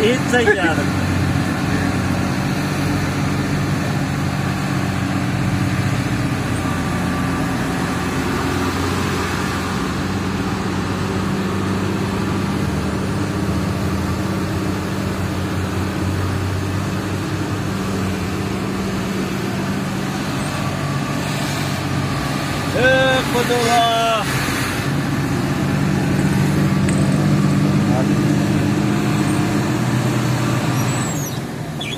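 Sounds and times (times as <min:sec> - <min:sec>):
road noise: 0:00.0 - 0:31.9
truck engine humming: 0:00.0 - 0:31.9.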